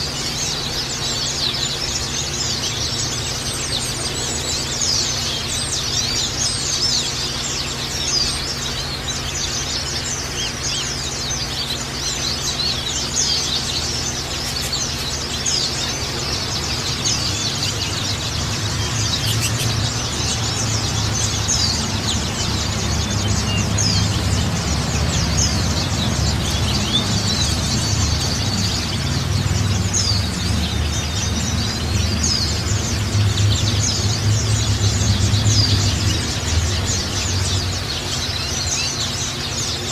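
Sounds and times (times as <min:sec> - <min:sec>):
birds chirping and twittering: 0:00.0 - 0:39.9
steady low hum: 0:00.0 - 0:39.9.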